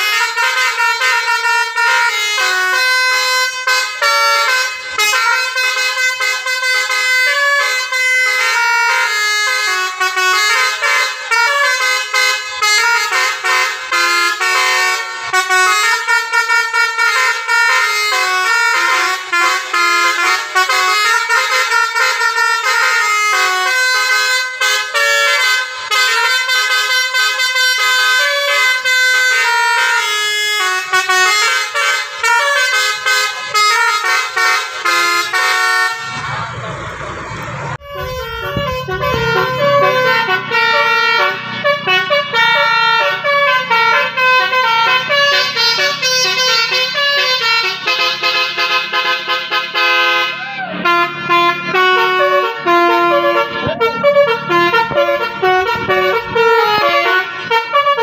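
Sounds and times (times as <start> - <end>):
multi-tone bus horn melody: 0.0 - 58.0.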